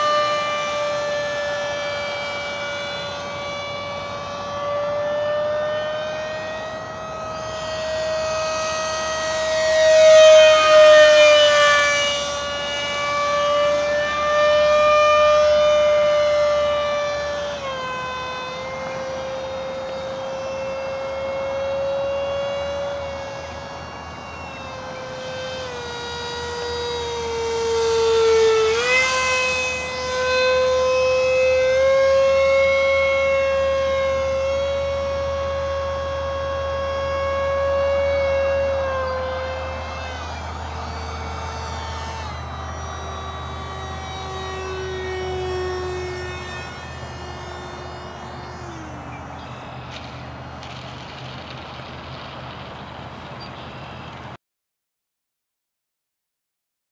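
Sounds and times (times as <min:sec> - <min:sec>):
model jet fan whining: 0:00.0 - 0:54.4.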